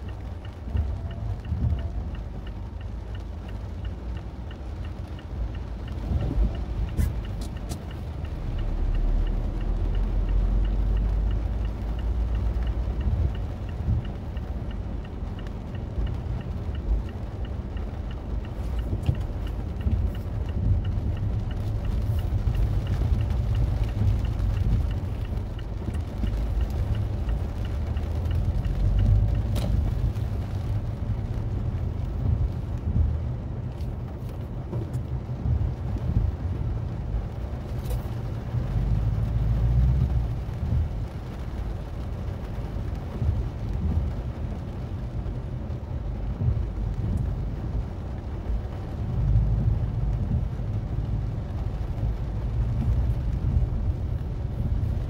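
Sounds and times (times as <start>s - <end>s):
road and engine rumble in car: 0.0s - 55.0s
turn signal ticking: 0.0s - 55.0s.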